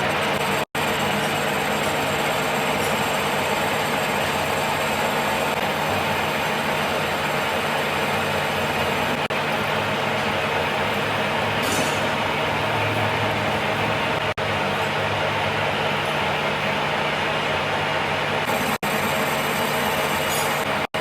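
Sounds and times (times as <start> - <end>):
machine humming: 0.0 - 21.0.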